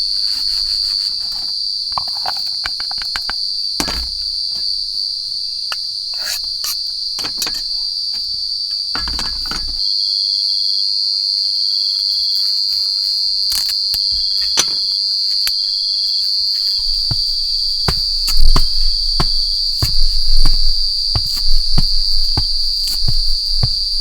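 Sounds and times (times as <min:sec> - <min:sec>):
insects chirping in chorus: 0:00.0 - 0:24.0.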